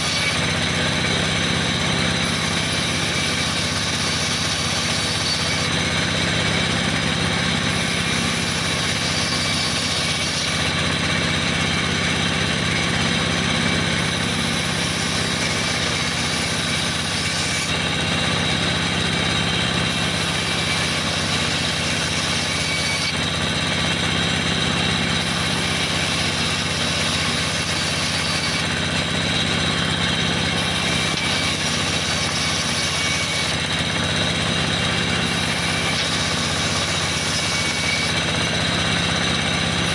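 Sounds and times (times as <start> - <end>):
band saw cutting wood: 0.0 - 39.9
low motor hum: 0.0 - 39.9.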